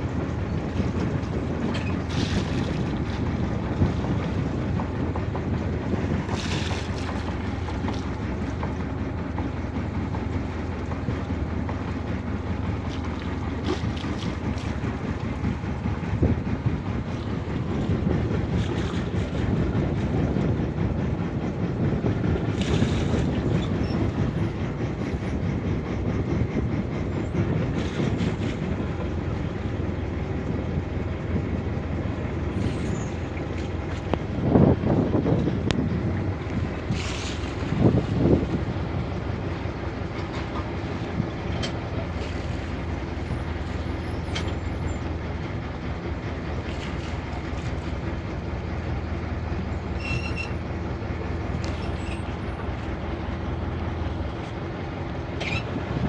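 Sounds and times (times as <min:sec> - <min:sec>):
wind buffeting microphone: 0:00.0 - 0:49.9, 0:50.6 - 0:56.0.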